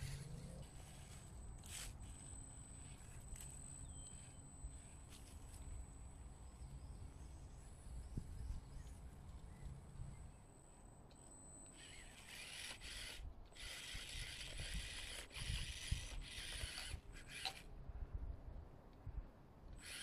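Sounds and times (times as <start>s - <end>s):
small electric motor whirring: 0.0s - 10.2s, 11.1s - 17.7s, 19.8s - 20.0s.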